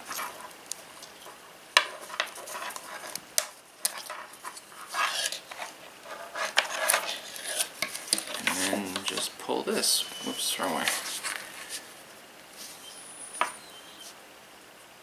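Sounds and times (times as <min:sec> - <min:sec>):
cord rustling and sliding: 0:00.0 - 0:13.0.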